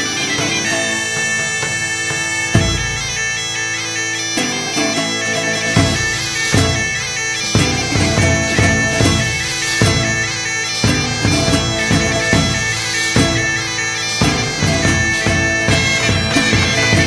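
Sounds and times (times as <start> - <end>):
bagpipes playing a tune: 0.0 - 17.0
drum beats: 0.0 - 17.0.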